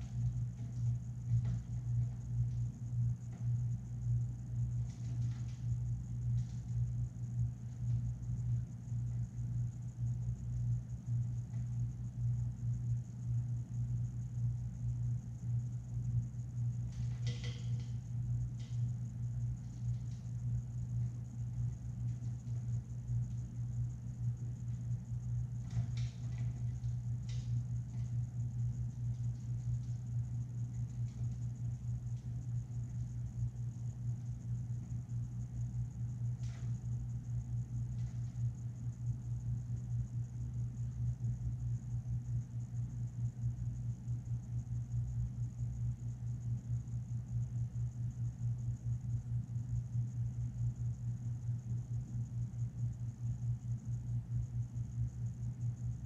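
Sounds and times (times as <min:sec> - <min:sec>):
low equipment hum: 0:00.0 - 0:56.0.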